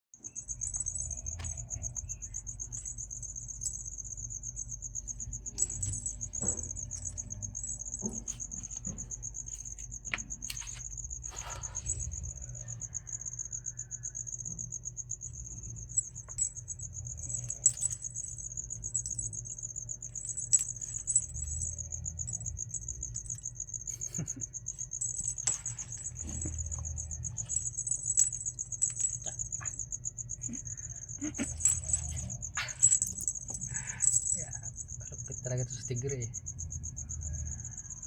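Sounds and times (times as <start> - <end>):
insect trilling: 0.2 - 38.0.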